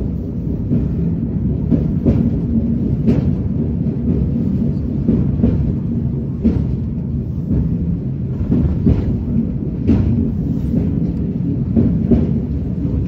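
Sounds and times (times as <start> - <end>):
cable car cabin low rumble: 0.0 - 13.0.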